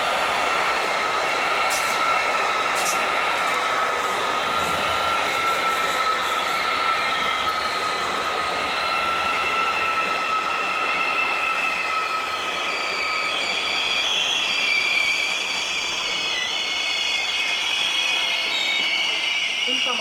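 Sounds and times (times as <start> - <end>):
train rumble and hiss: 0.0 - 20.0
train wheels squealing: 0.0 - 20.0.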